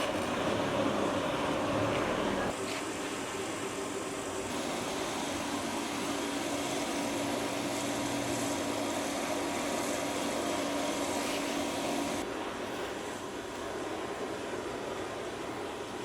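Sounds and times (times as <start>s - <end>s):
forge blower whirring: 0.0s - 16.0s.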